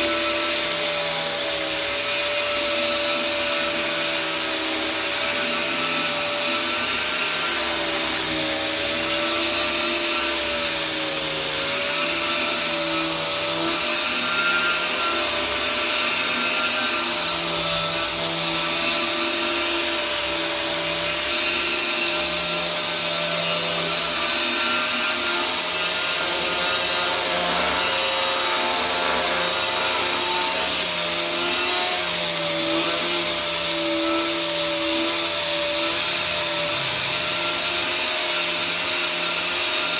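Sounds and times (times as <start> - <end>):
electric sander on wood: 0.0 - 39.9.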